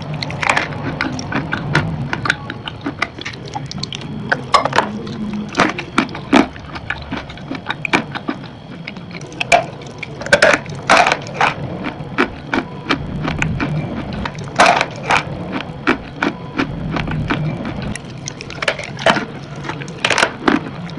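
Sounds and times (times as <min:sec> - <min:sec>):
chalk block crunching when chewed: 0:00.0 - 0:20.9
faint low hum: 0:00.0 - 0:20.9.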